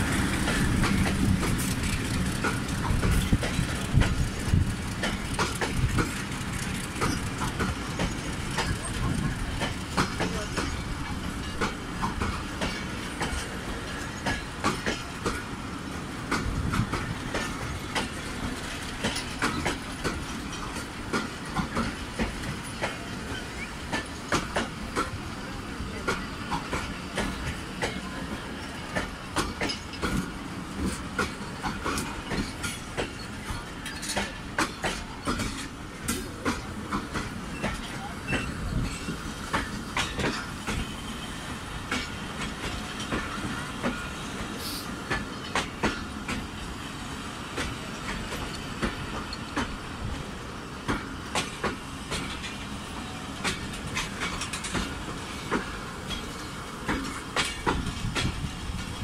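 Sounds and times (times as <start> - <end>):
train coaches rumbling past: 0.0 - 59.0
wheels clacking over rail joints: 0.0 - 59.0.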